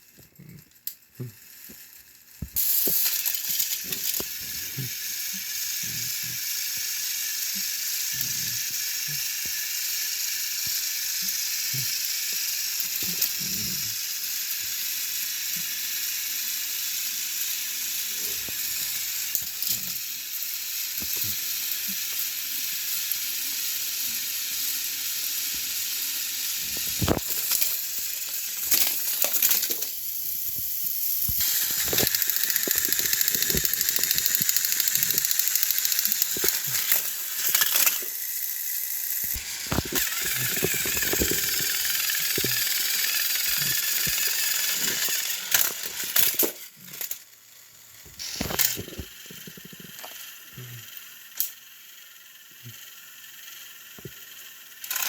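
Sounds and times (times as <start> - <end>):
toy train clicks and clattering: 0.0 - 55.0
toy train motor whirring: 0.0 - 55.0.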